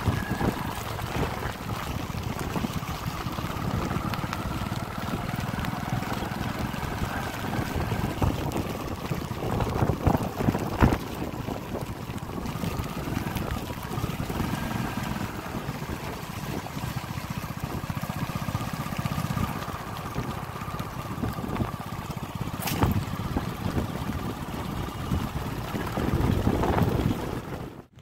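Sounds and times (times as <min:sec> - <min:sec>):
floodwater rushing: 0:00.0 - 0:27.9
wind buffeting microphone: 0:00.0 - 0:28.0.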